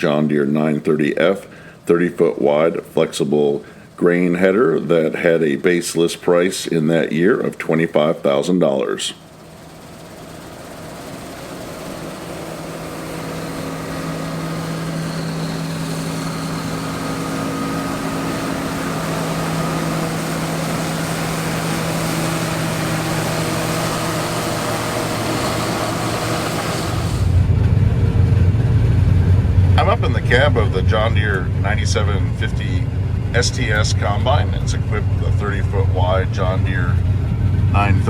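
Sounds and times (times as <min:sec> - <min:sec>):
combine harvester humming: 0:00.0 - 0:38.0.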